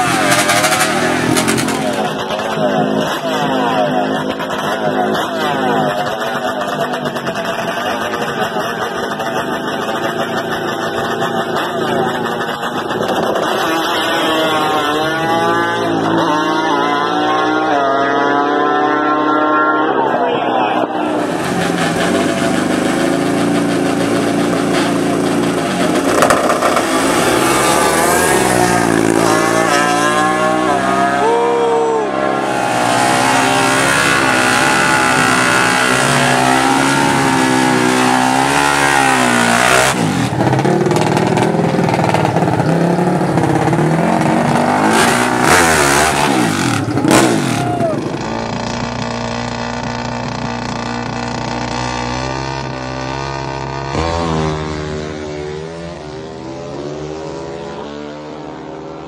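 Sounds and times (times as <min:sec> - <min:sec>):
engines revving hard: 0:00.0 - 0:59.0.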